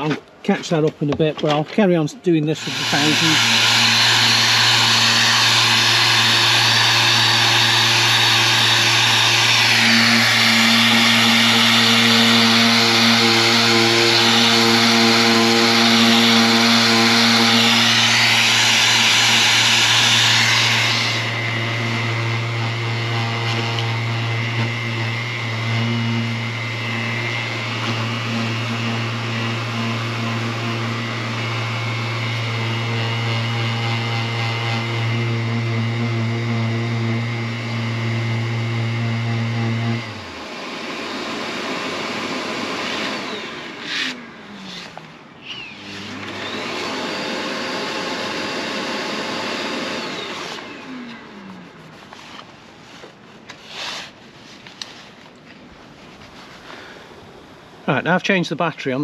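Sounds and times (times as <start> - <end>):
power sander running: 2.4 - 58.2.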